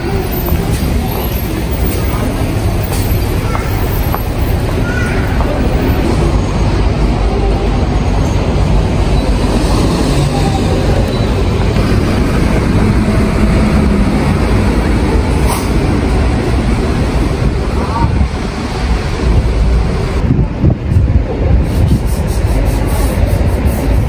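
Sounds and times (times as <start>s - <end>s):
bus engines and road traffic: 0.0s - 24.0s.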